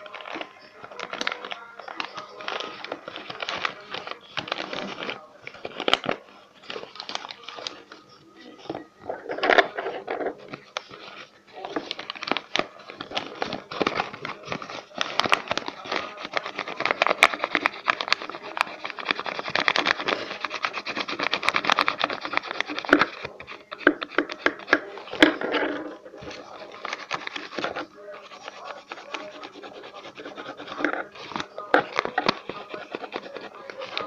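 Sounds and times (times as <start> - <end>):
felt-tip marker scratching: 0.0 - 7.8, 8.5 - 34.0
paper crinkling and rustling: 0.0 - 34.0.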